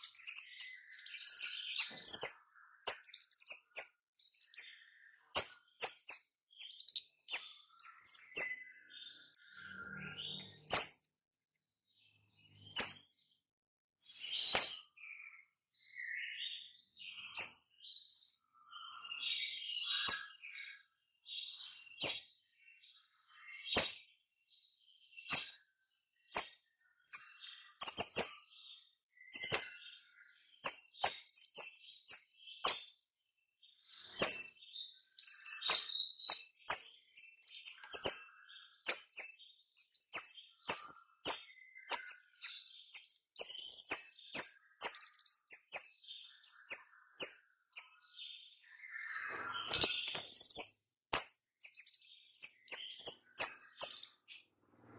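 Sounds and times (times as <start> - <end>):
songbird sharp high chirps: 0.0 - 11.1, 12.4 - 13.4, 14.1 - 24.2, 25.0 - 33.0, 33.7 - 54.4.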